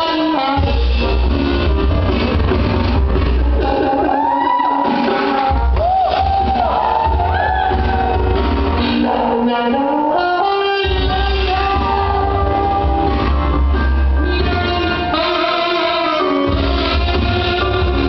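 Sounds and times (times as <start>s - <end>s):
dance music with singing: 0.0s - 15.3s.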